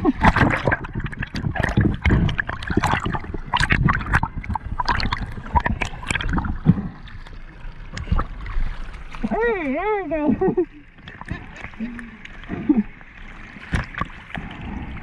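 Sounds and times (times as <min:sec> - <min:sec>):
seawater sloshing and splashing: 0:00.0 - 0:15.0.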